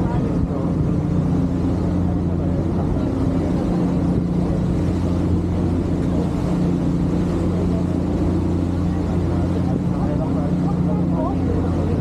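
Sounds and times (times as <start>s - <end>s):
ferry engines droning: 0.0s - 12.0s.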